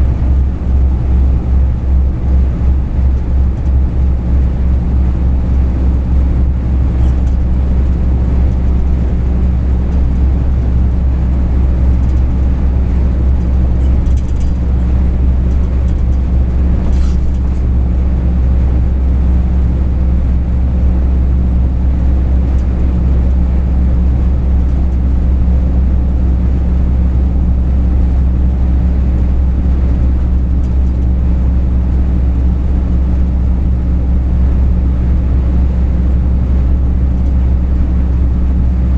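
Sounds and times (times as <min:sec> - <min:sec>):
truck engine drone: 0:00.0 - 0:38.9.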